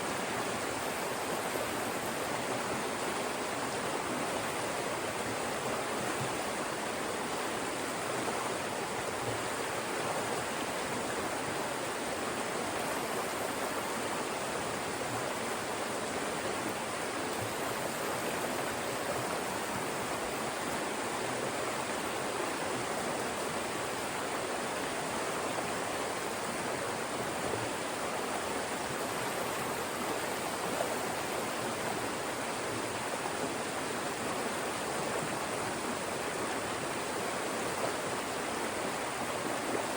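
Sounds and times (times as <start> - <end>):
mountain stream rushing over rocks: 0.0 - 39.9.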